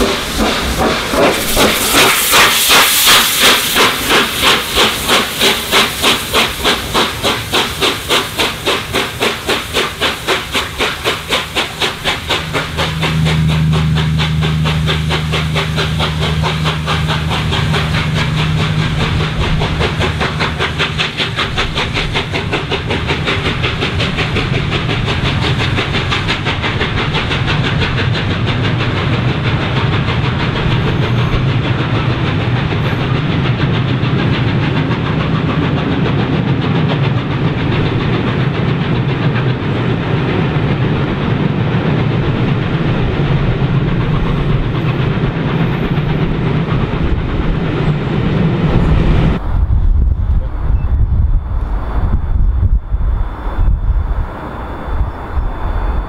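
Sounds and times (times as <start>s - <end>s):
steam hiss: 0.0s - 49.6s
steam locomotive chuffing: 0.0s - 56.0s
train wheels clattering on rails: 0.0s - 56.0s.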